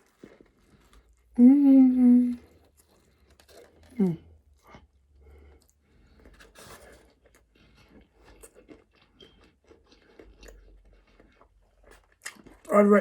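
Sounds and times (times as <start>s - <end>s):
crunchy chewing: 0.0s - 1.4s, 2.4s - 12.7s.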